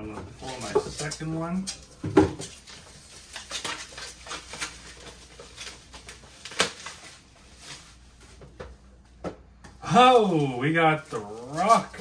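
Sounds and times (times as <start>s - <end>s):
packaging rustling and crinkling: 0.4s - 8.7s, 10.0s - 12.0s.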